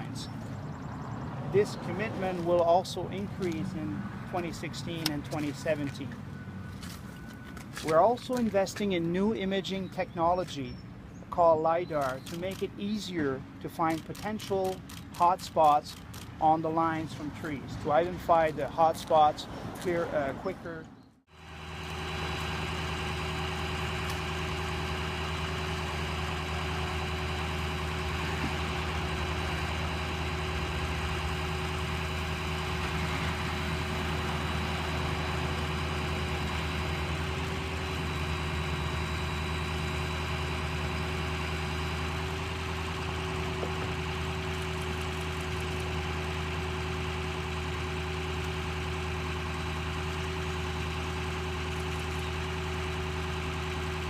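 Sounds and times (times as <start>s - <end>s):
large engine idling: 0.0s - 19.2s, 21.3s - 54.0s.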